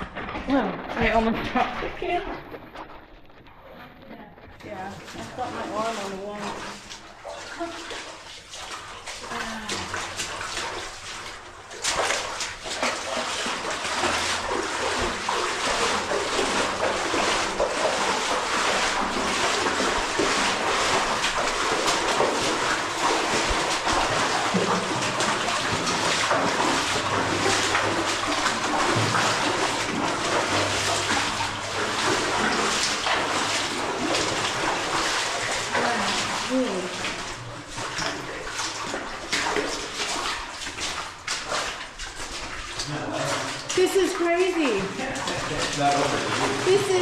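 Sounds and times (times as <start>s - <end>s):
water rushing and splashing: 4.6s - 47.0s.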